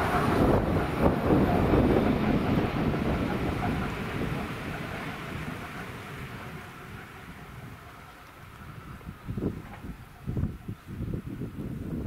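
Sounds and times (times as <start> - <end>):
electric train rumbling in tunnel: 0.0 - 12.0
wind on microphone: 0.0 - 12.0.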